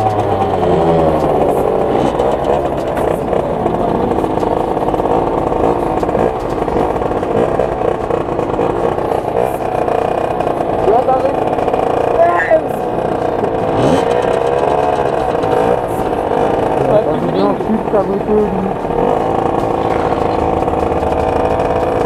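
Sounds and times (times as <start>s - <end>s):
two-stroke moped engine revving: 0.0s - 22.0s.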